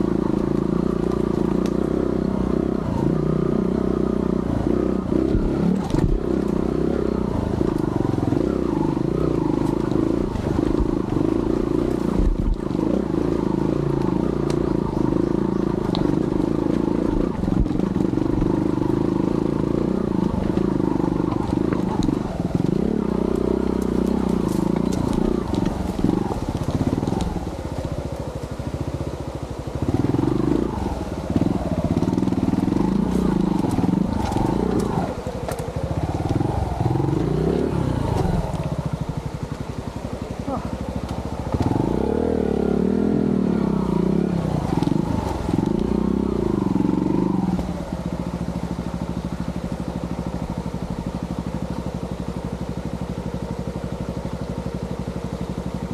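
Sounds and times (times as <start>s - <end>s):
motorcycle engine under load: 0.0s - 55.9s.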